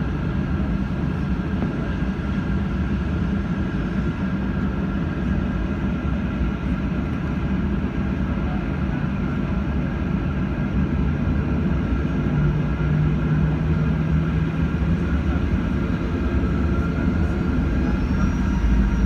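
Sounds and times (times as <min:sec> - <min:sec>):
jet engine rushing in cabin: 0:00.0 - 0:19.0.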